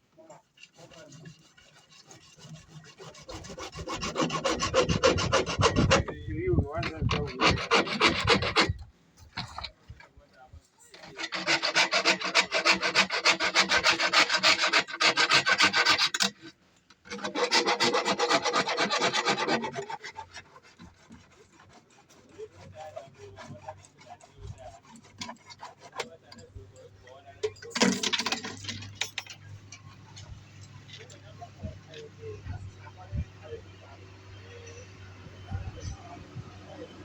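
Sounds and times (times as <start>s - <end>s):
rhythmic rasping of hand tool: 0.2s - 9.9s, 10.8s - 33.6s.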